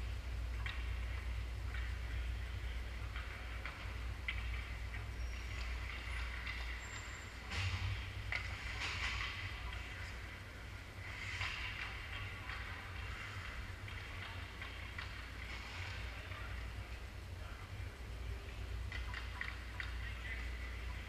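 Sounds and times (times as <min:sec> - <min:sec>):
steady low hum: 0:00.0 - 0:21.0
sticks and puck clacking: 0:00.5 - 0:16.9, 0:18.5 - 0:21.0.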